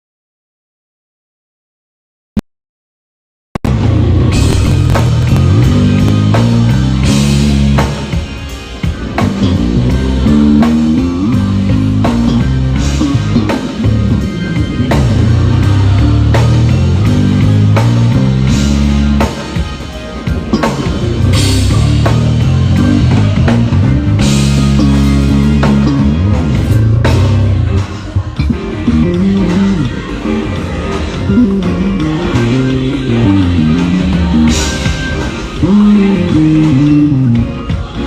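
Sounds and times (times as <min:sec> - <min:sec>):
drum kit and cymbals: 0:03.6 - 0:38.0
electric bass guitar: 0:03.6 - 0:38.0
full band playing loud: 0:03.6 - 0:38.0.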